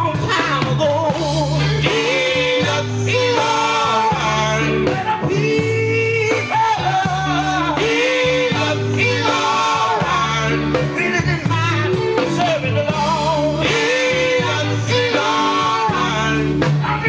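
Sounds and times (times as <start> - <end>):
band accompaniment: 0.0 - 17.0
gospel vocal group singing: 0.0 - 17.0.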